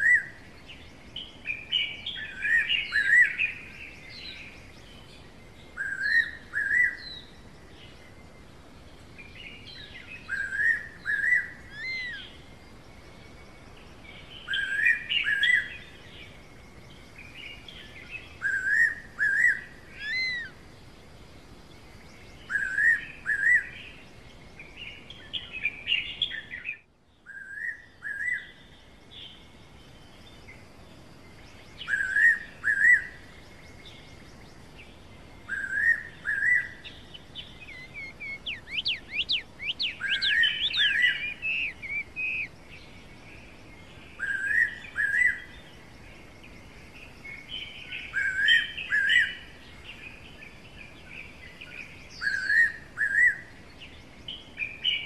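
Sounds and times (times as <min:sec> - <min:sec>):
forest birds chirping: 0:00.0 - 0:55.0.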